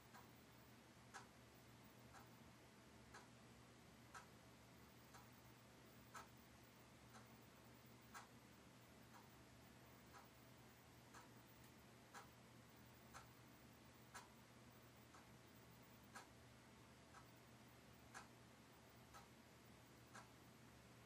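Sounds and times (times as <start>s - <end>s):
faint regular ticking: 0.0s - 21.0s.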